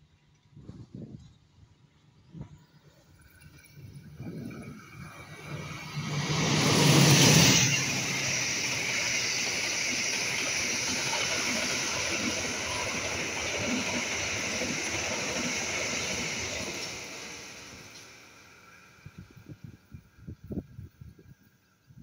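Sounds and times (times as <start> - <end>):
diesel locomotive passing: 2.7 - 21.9.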